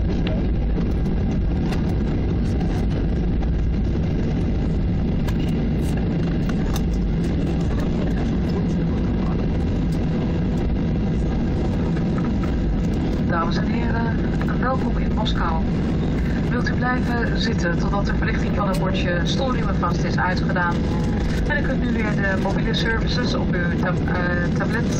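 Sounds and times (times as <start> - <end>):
jet engine rumble: 0.0 - 24.9.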